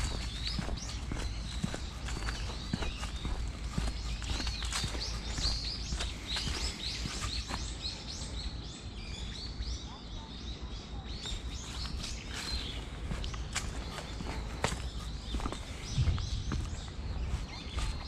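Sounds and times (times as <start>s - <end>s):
light footsteps on a path: 0.0s - 9.4s, 11.1s - 18.0s
steady low rumble: 0.0s - 9.8s, 11.3s - 18.0s
small birds chirping: 0.0s - 18.0s.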